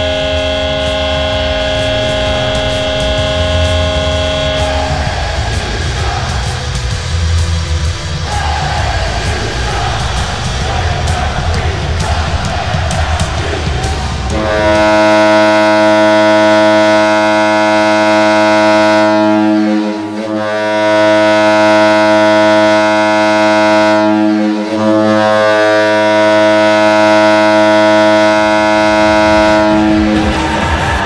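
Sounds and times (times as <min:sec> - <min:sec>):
deep goal horn blasts: 0:00.0 - 0:31.0.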